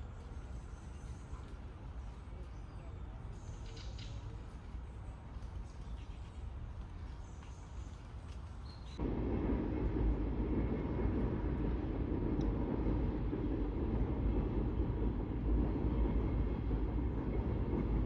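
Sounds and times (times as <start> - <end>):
rail vehicle rumbling: 0.0 - 18.0.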